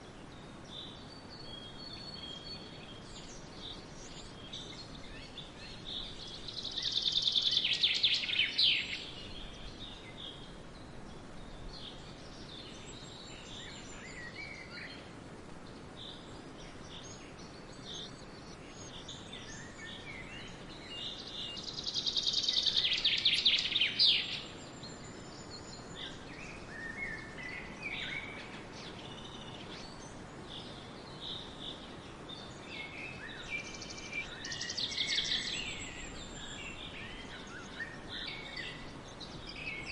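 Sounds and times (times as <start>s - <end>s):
steady background hiss: 0.0s - 39.9s
bird chirps: 0.8s - 10.5s, 16.0s - 39.9s.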